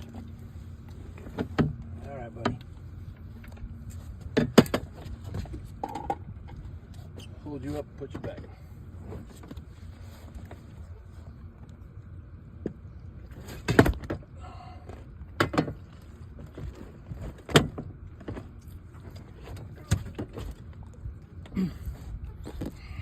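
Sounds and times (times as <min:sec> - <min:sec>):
knocks and thumps in a boat: 0:00.0 - 0:11.6, 0:12.5 - 0:23.0.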